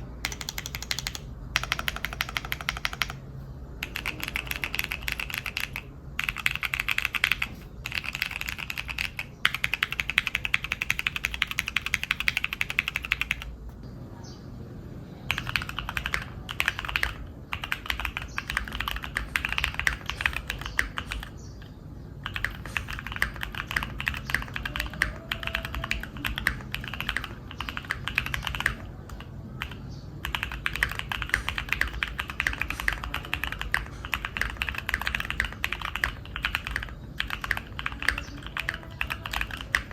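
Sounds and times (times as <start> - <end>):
mechanical keyboard typing: 0.0 - 13.6, 15.3 - 39.9.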